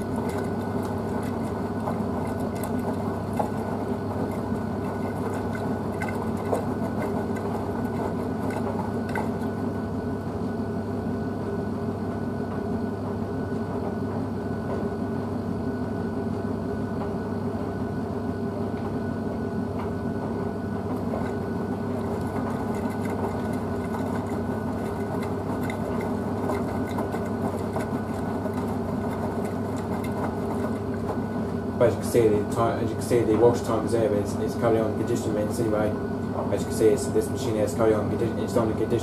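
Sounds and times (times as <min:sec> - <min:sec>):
washing machine motor hum: 0:00.0 - 0:39.0.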